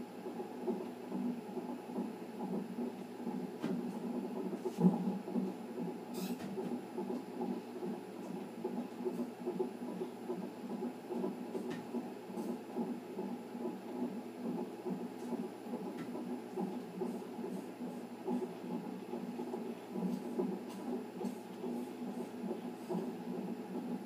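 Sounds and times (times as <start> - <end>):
fast heartbeat through speaker: 0.2 - 24.0.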